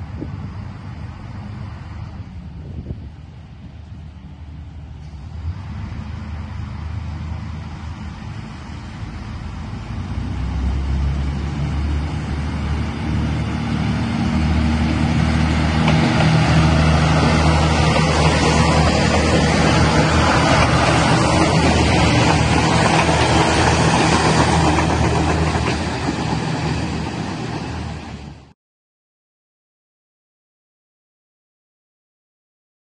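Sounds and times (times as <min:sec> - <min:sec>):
diesel train engine drone: 0:00.0 - 0:28.5
wheels rushing on rails: 0:00.0 - 0:28.5.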